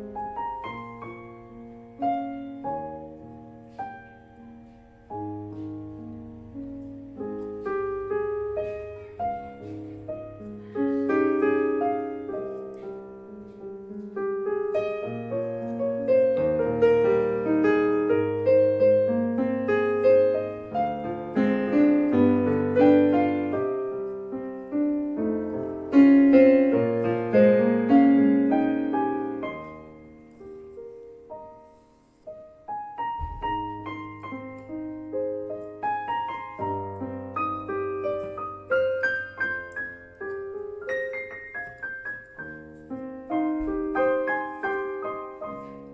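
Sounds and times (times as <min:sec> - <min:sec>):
keyboard playing piano tone: 0:00.0 - 0:45.9.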